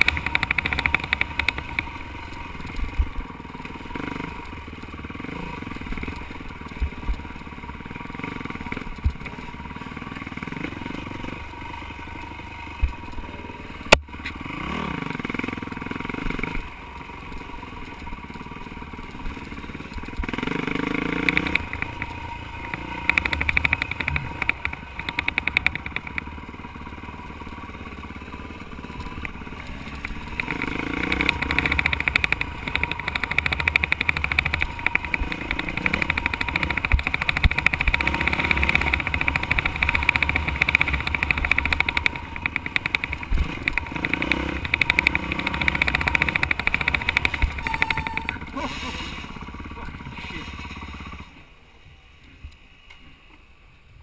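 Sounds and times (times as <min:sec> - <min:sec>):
dirt bike engine revving: 0:00.0 - 0:51.5.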